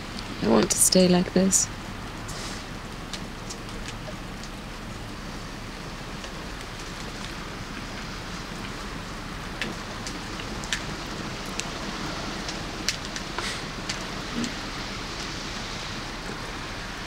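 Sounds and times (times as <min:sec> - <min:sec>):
sharp ticks of raindrops: 0:00.0 - 0:17.0
steady rain hiss: 0:00.0 - 0:17.0.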